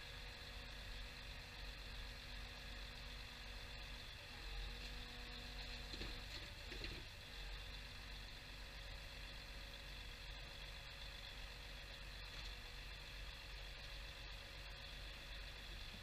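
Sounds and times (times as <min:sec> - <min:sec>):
lorry engine low hum: 0:00.0 - 0:16.0.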